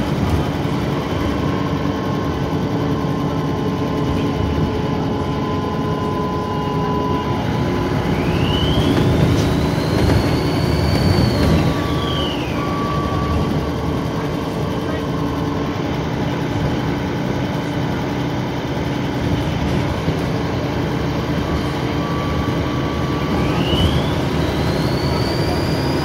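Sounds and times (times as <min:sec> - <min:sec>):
bus engine running: 0:00.0 - 0:26.0
turbocharger whine: 0:00.0 - 0:26.0.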